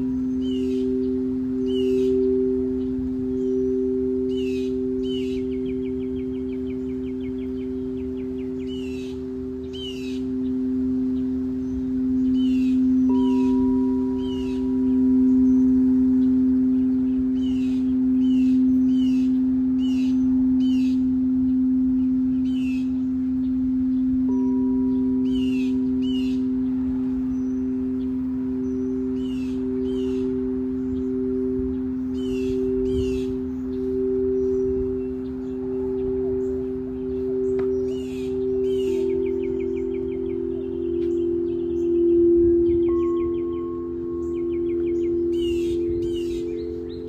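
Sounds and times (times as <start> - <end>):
bird chirping: 0.0 - 47.0
singing bowls ringing: 0.0 - 47.0.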